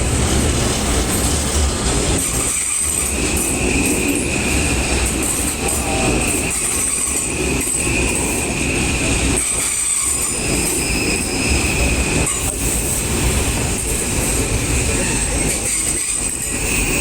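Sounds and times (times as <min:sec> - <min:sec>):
train low rumble: 0:00.0 - 0:17.0
train wheels squealing on rails: 0:00.0 - 0:17.0.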